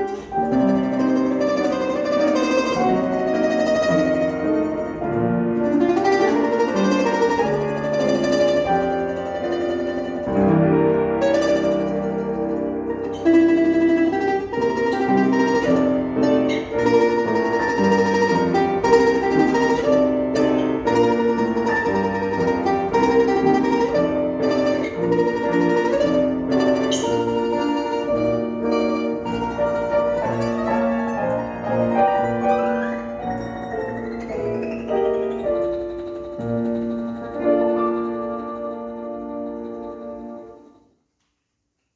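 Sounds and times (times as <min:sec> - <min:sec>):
plucked string instrument melody: 0:00.0 - 0:40.8.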